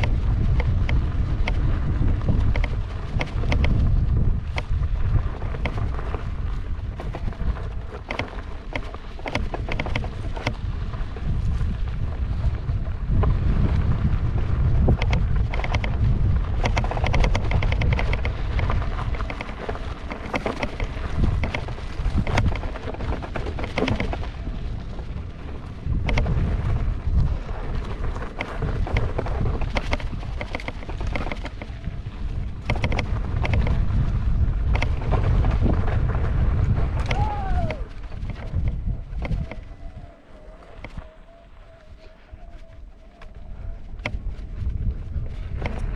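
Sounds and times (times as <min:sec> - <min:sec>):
gravel knocks and rattles: 0:00.0 - 0:45.9
tyre crunching on dirt trail: 0:00.0 - 0:45.9
wind buffeting microphone: 0:00.0 - 0:45.9.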